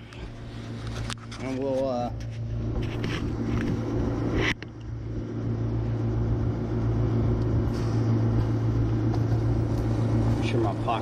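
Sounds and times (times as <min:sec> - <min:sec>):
air conditioner hum: 0:00.0 - 0:11.0.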